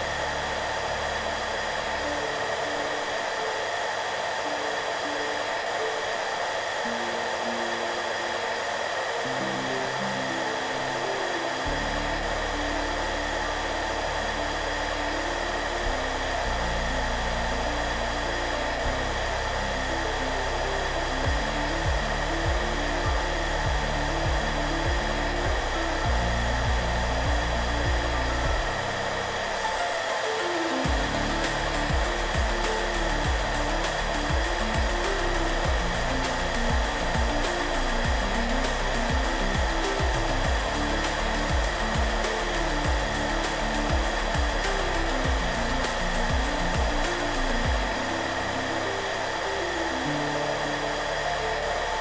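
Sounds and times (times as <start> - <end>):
hair dryer running: 0.0 - 52.0
soft background music: 0.0 - 52.0.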